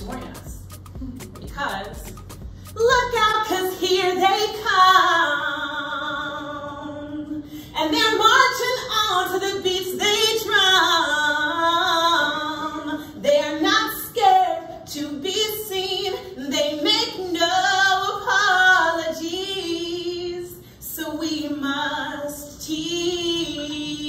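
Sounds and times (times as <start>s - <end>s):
woman singing with vibrato: 0.0s - 24.0s.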